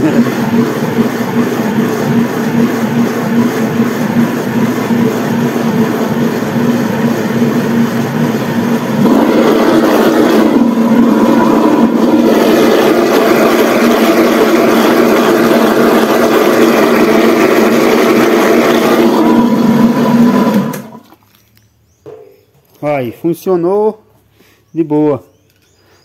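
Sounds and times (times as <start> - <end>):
blender running: 0.0 - 21.0.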